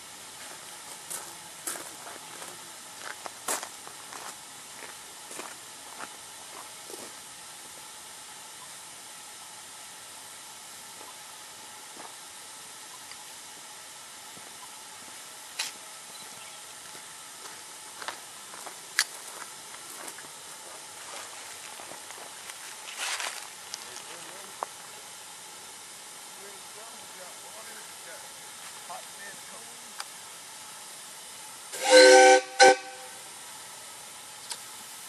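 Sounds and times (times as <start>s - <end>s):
steam hissing: 0.0s - 35.0s.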